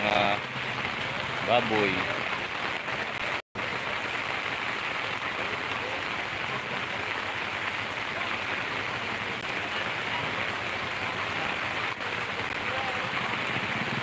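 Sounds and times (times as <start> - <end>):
heavy rain on a paved road: 0.0 - 14.0.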